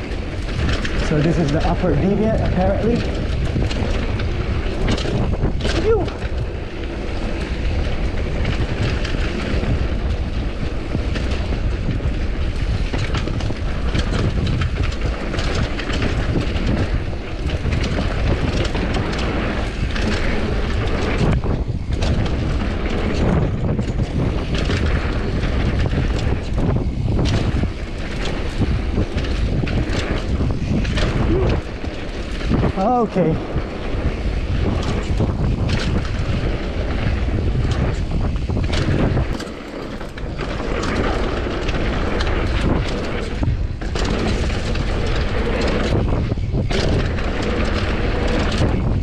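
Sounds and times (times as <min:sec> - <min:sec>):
bike knocking and rattling: 0:00.0 - 0:49.0
wind rumble on microphone: 0:00.0 - 0:49.0.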